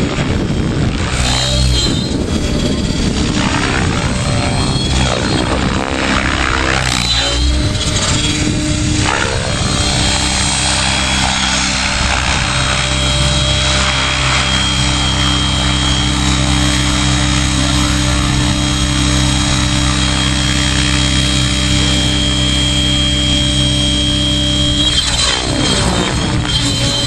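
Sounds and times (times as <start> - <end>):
high thin whine: 0.0 - 27.0
model helicopter droning: 0.0 - 27.0.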